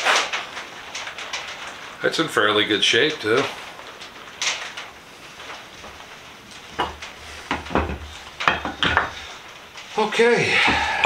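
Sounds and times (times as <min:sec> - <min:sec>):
room hiss: 0:00.0 - 0:11.0.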